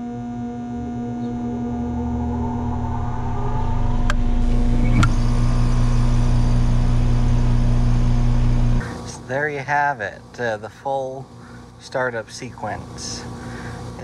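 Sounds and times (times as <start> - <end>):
compressor humming: 0.0 - 14.0
mains hum: 0.0 - 14.0.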